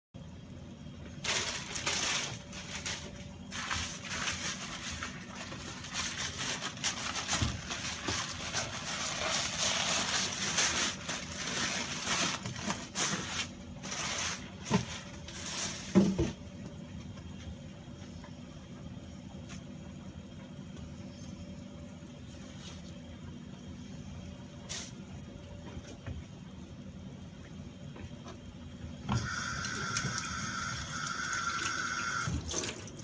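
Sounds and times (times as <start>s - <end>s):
steady hum: 0.2s - 33.0s.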